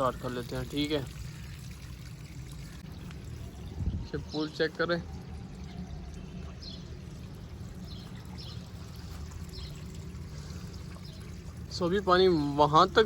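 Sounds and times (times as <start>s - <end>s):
water pouring from a hose: 0.0s - 3.9s, 4.6s - 13.0s.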